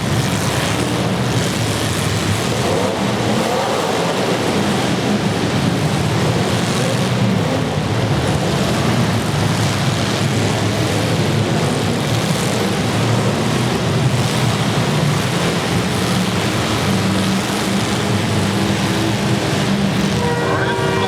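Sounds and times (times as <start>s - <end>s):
car engines running: 0.0s - 21.0s.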